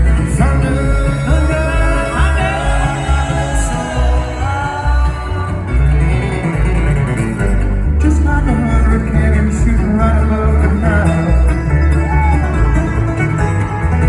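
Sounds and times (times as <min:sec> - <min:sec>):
person singing: 0:00.0 - 0:06.7, 0:08.0 - 0:12.6
bluegrass band playing: 0:00.0 - 0:14.0
heavy bass: 0:00.0 - 0:14.0
picked guitar: 0:00.0 - 0:14.0.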